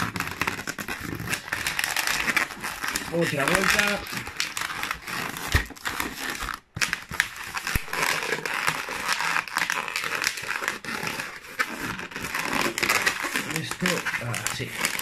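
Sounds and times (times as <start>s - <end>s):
balloons rubbing and crackling: 0.0s - 15.0s.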